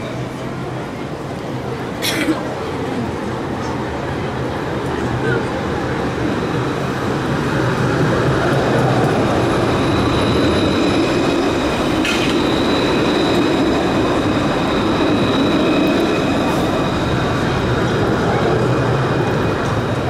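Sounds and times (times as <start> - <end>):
tram passing: 0.0 - 20.0.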